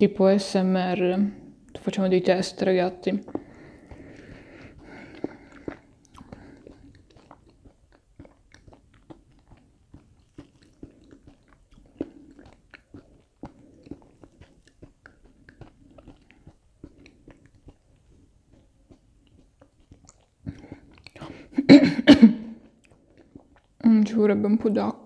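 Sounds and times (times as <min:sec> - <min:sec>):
person chewing food: 0:03.0 - 0:23.8.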